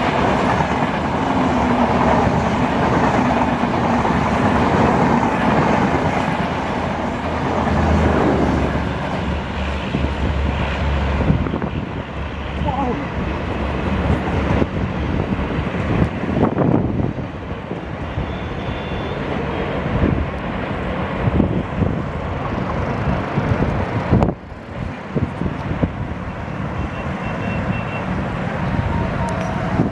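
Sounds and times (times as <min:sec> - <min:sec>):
train wheels rumbling on rails: 0:00.0 - 0:29.9.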